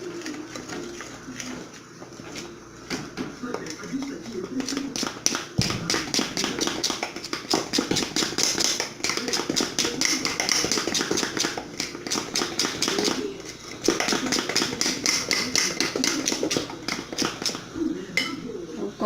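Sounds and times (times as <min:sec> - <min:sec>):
batter beaten in a bowl: 0:00.0 - 0:18.3.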